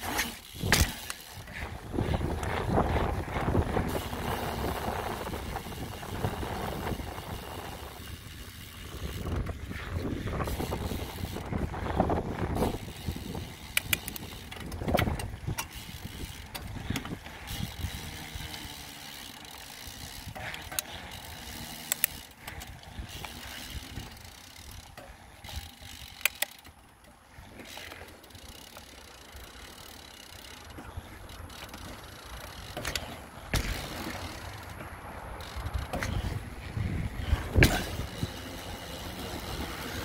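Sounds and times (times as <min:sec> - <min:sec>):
bike rattling over bumps: 0:00.0 - 0:40.0
bike tyre and drivetrain noise: 0:00.0 - 0:40.0.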